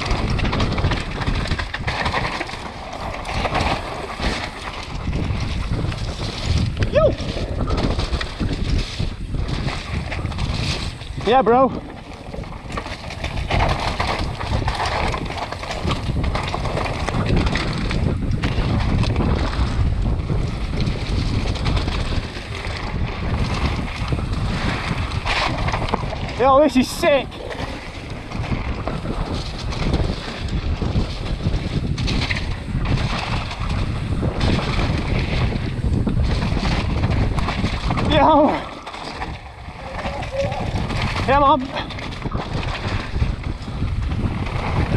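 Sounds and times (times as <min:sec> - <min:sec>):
bike rattling: 0:00.0 - 0:44.9
tyres rolling over stones: 0:00.0 - 0:44.9
wind on microphone: 0:00.0 - 0:44.9.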